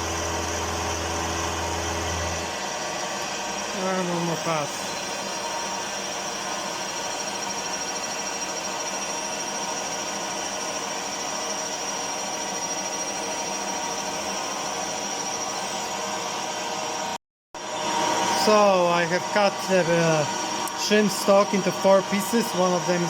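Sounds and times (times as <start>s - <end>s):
milling machine cutting steel: 0.0s - 17.2s, 17.8s - 23.0s
high-pitched whine: 0.0s - 23.0s.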